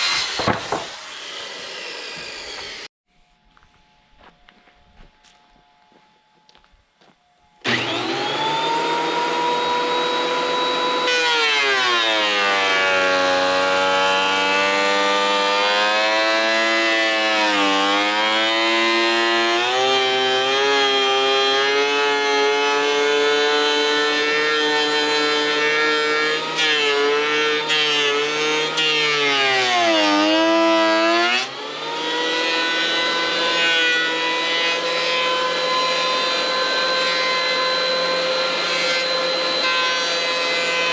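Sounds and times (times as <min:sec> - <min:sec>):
power tool cutting board: 0:00.0 - 0:02.9, 0:07.6 - 0:40.9.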